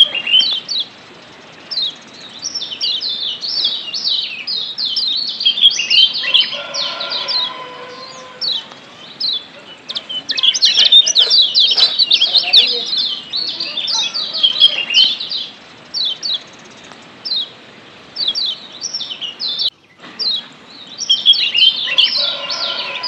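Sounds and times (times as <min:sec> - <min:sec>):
birds chirping high: 0:00.0 - 0:23.0.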